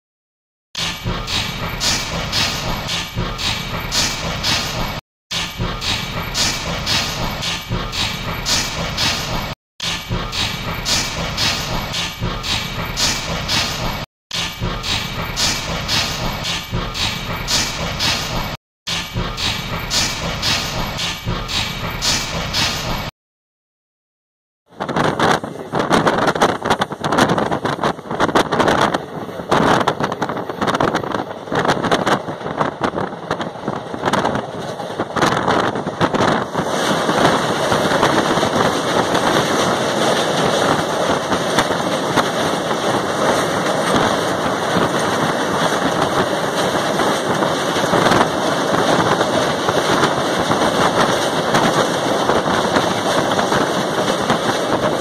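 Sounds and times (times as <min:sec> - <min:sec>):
train rumbling on bridge: 0:00.8 - 0:23.1, 0:24.7 - 0:55.0
train wind and wheel noise: 0:00.8 - 0:23.1, 0:24.7 - 0:55.0.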